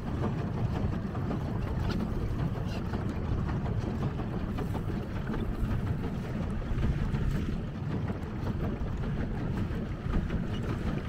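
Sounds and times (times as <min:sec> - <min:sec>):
water lapping and splashing: 0:00.0 - 0:11.0
wind rumbling on microphone: 0:00.0 - 0:11.0.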